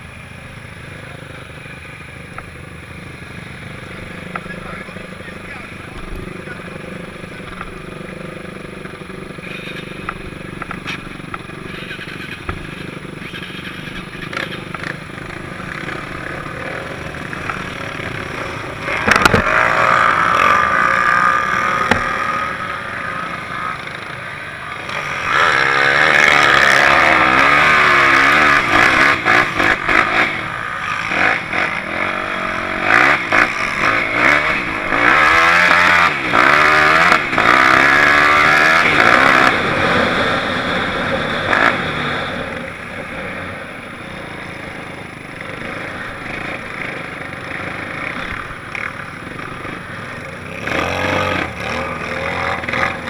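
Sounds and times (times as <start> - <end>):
quad engines revving: 0.0 - 53.0.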